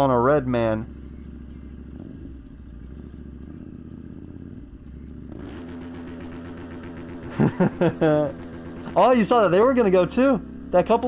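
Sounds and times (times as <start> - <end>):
low street noise: 0.0 - 11.0
motorcycle engine: 0.0 - 11.0.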